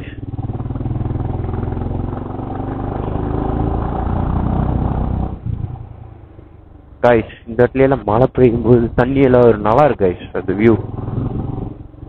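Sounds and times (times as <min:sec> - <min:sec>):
motorcycle engine revving: 0:00.0 - 0:06.8, 0:08.6 - 0:12.0.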